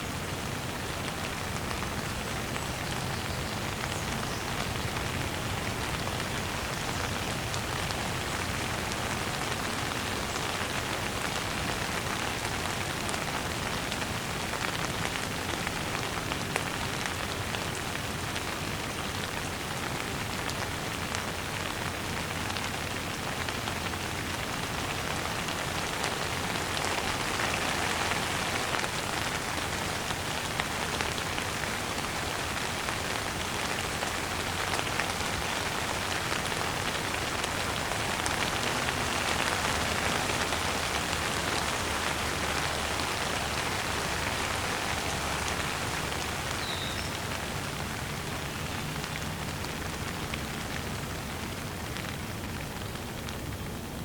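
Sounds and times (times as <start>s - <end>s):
rain on a hard surface: 0.0s - 54.0s.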